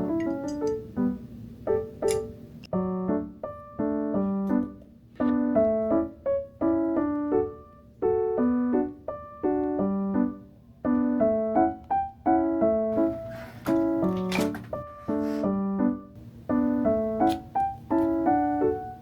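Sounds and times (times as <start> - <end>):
gentle keyboard chords: 0.0 - 19.0.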